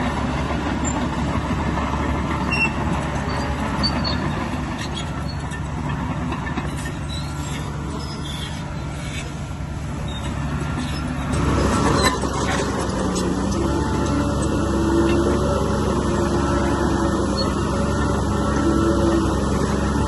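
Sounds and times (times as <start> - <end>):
heavy diesel engine under load: 0.0 - 20.0.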